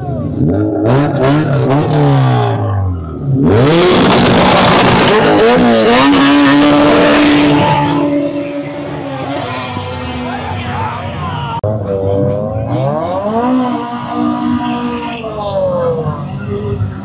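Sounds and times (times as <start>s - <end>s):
car engine revving: 0.0s - 17.0s
loud car exhaust: 0.0s - 17.0s.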